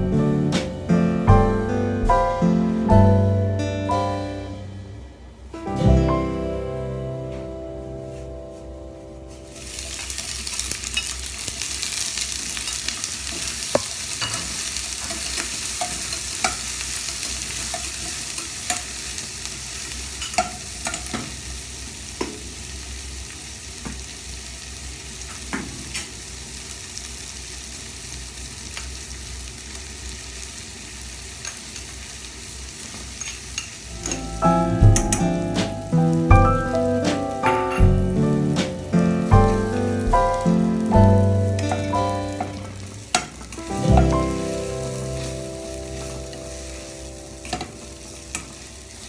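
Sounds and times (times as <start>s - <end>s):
food sizzling in hot oil: 9.3s - 49.0s.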